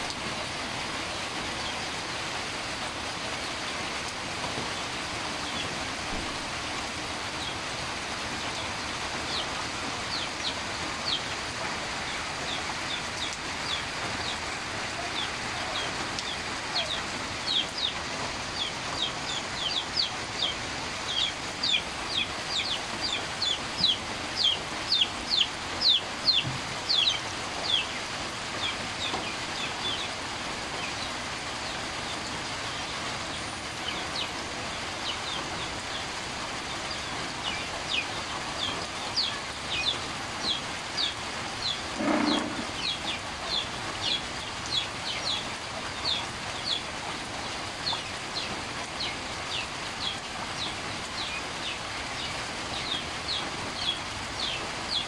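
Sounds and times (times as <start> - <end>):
steady rain on foliage: 0.0 - 55.0.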